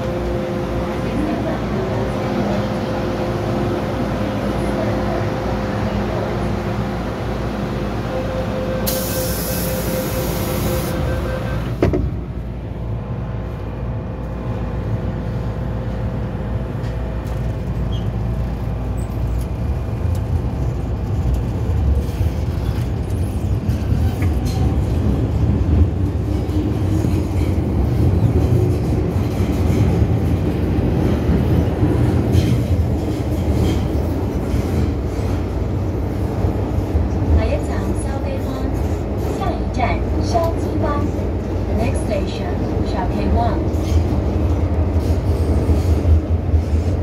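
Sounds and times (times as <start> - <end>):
train running rumble: 0.0 - 47.0.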